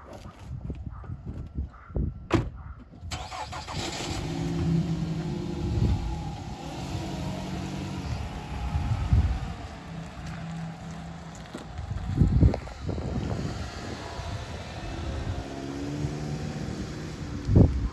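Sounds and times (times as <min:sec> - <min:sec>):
car engine starting and running: 0:03.1 - 0:17.9.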